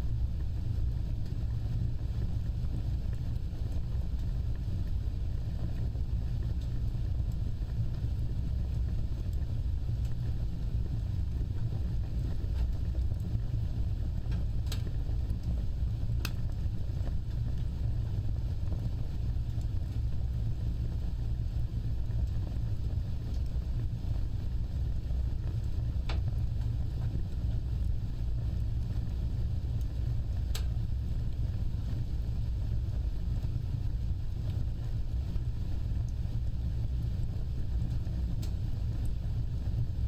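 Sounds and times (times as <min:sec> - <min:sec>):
fire roaring and crackling: 0:00.1 - 0:40.0.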